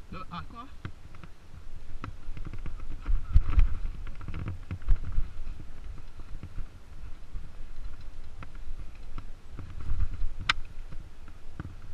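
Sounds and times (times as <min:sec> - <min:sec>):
wind: 0:00.0 - 0:11.9
bike chain and frame clatter: 0:00.7 - 0:11.9.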